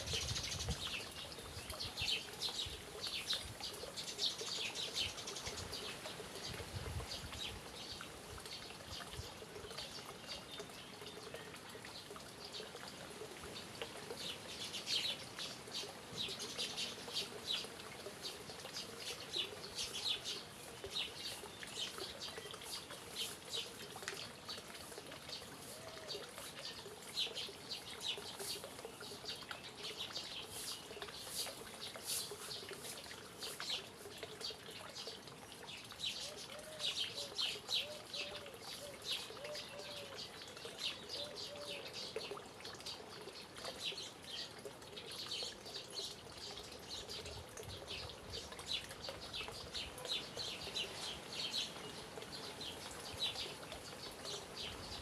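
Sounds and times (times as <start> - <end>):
small birds chirping: 0.0 - 55.0
water trickling: 0.0 - 55.0.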